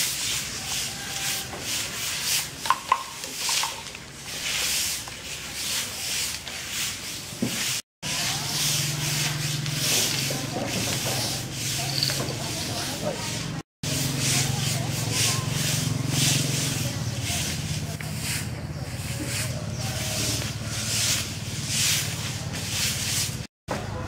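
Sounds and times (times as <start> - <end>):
brooms sweeping concrete: 0.0 - 23.5.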